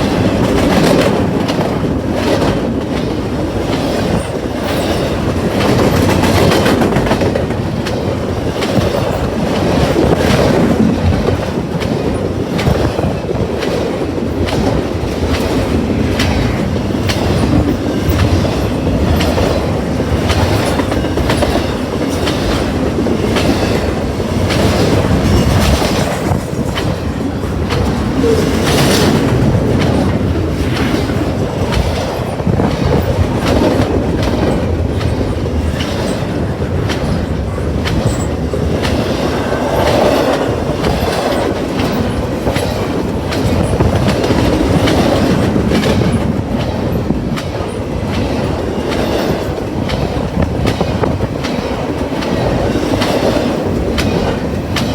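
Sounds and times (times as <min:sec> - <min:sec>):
train rumbling past: 0:00.0 - 0:54.9
wheels clacking over rail joints: 0:00.0 - 0:54.9.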